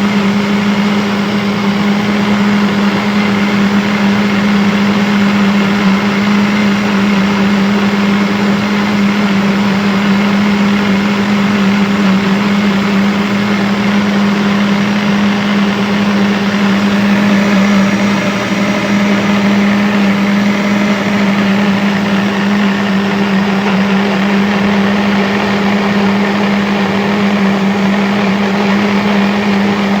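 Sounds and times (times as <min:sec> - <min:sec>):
blender motor running: 0:00.0 - 0:30.0.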